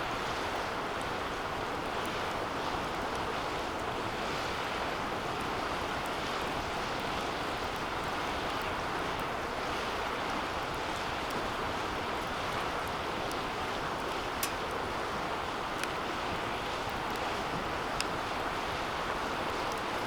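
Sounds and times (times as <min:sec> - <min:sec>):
fire crackling: 0:00.4 - 0:20.0.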